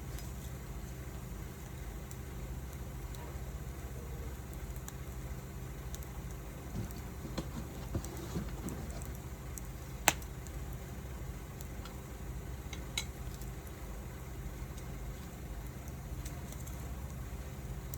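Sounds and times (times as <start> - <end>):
steady low hum: 0.0 - 17.9
wood fire crackling: 0.0 - 17.9.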